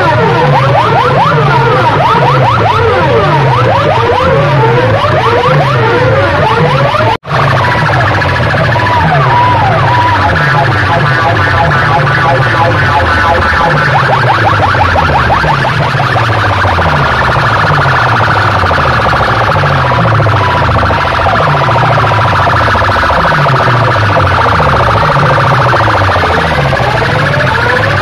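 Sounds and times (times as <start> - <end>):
pulsing bass: 0.0 - 28.0
siren-like electronic sweeps: 0.0 - 28.0.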